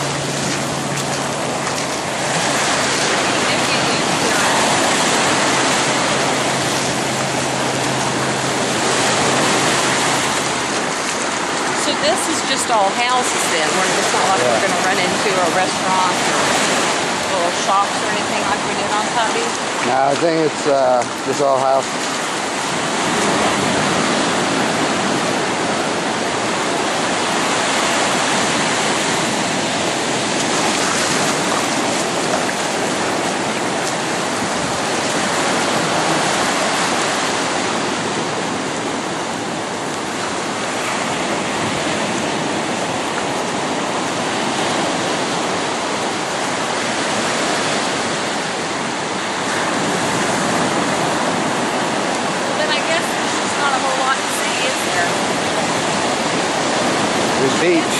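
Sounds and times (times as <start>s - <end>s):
ocean surf breaking on beach: 0.0s - 57.9s.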